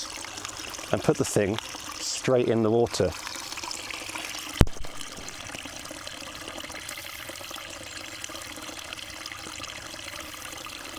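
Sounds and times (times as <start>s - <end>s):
river water flowing: 0.0s - 10.9s.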